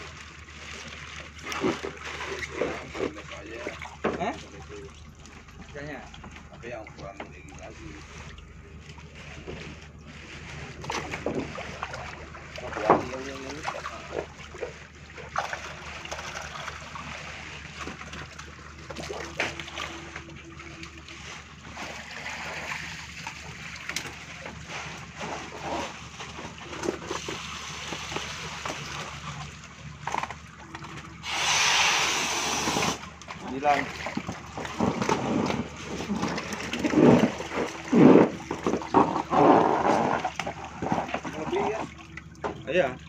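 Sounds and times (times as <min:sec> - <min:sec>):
steady low hum: 0:00.0 - 0:43.0
water splashing and sloshing: 0:00.0 - 0:43.0.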